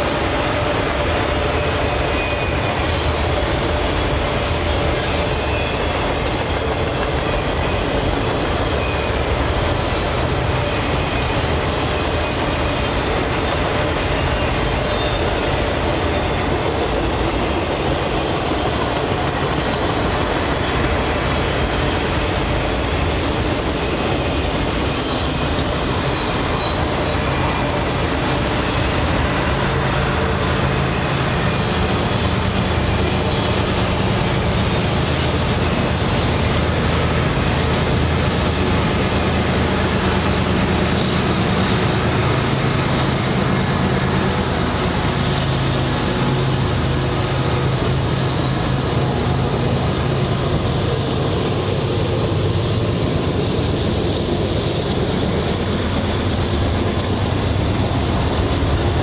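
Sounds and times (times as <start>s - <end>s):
diesel locomotive drone: 0.0s - 59.0s
train wheels on rails: 0.0s - 59.0s.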